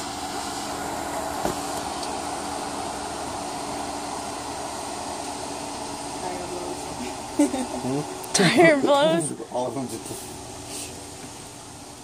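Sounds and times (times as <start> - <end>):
ventilation rumble and hum: 0.0 - 12.0.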